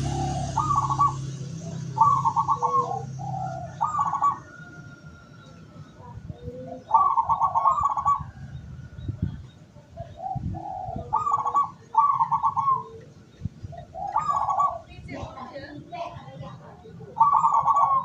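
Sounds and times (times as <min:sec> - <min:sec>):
dove cooing with rattling trill: 0:00.0 - 0:18.0.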